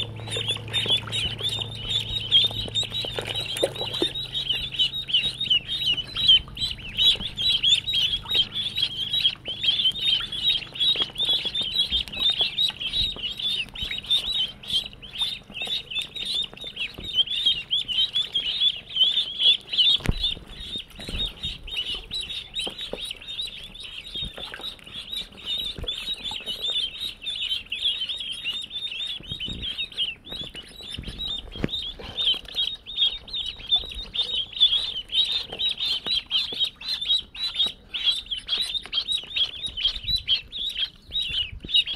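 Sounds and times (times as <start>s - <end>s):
ducklings peeping: 0.0s - 41.9s.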